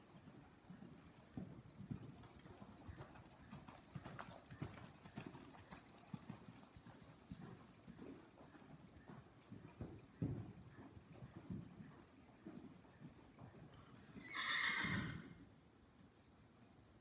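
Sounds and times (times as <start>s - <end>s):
horse hoofbeats on dirt: 0.0s - 16.2s.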